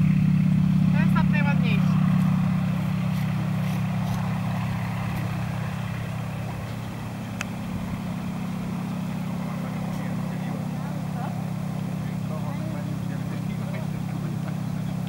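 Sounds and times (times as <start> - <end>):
plane engine drone: 0.0 - 15.0.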